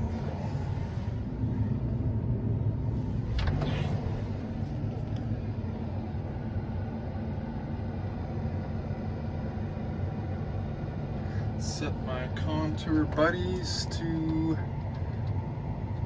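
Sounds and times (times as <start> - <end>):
combine engine low drone: 0.0 - 16.0.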